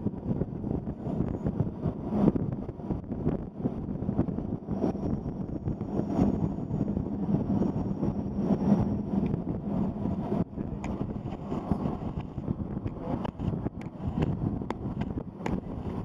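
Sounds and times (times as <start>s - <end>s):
train rumble: 0.0s - 16.0s
wind buffeting microphone: 0.0s - 16.0s.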